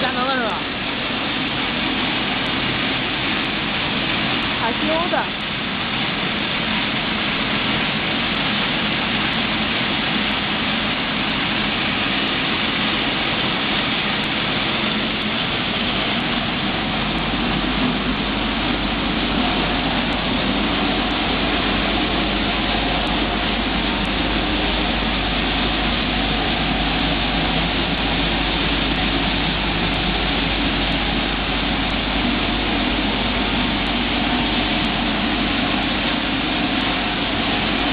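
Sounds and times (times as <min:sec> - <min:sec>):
low hum: 0:00.0 - 0:37.9
processing machinery running: 0:00.0 - 0:37.9.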